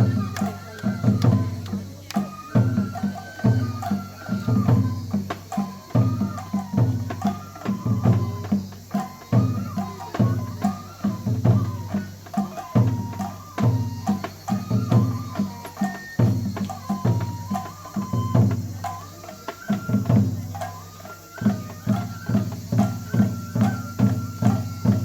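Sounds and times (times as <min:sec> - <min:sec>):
bamboo flute melody: 0:00.0 - 0:25.0
taiko drumbeat: 0:00.0 - 0:25.0.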